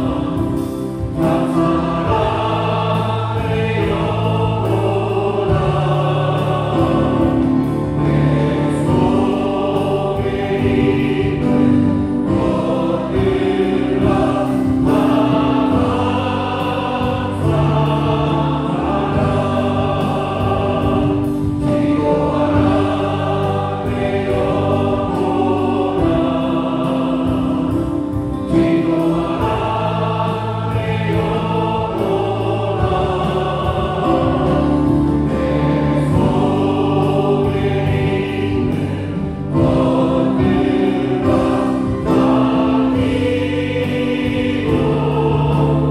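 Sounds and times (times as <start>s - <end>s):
group singing a hymn: 0.0s - 45.9s.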